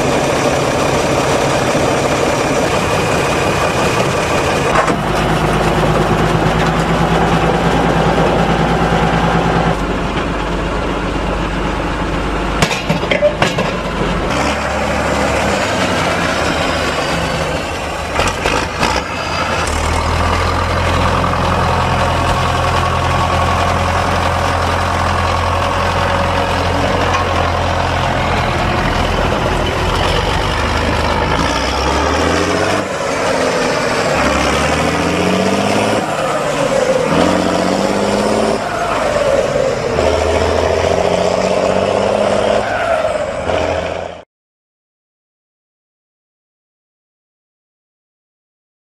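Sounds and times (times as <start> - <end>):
tractor diesel engine running: 0.0 - 44.2.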